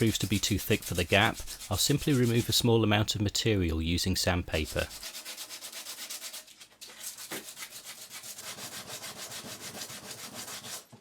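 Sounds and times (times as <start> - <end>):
wood rubbing on sandpaper: 0.0 - 2.8, 4.5 - 11.0.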